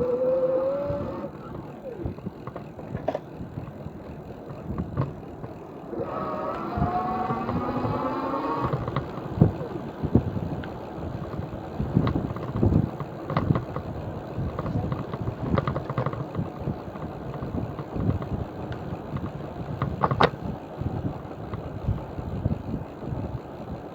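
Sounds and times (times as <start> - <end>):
electric bicycle motor humming: 0.0 - 23.9
steady rumbling noise: 0.0 - 23.9.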